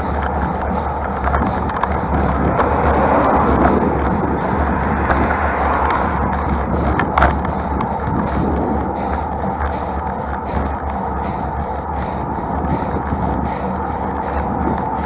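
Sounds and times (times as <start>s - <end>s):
small clicks and rattles: 0.0s - 15.0s
wind and road noise: 0.0s - 15.0s.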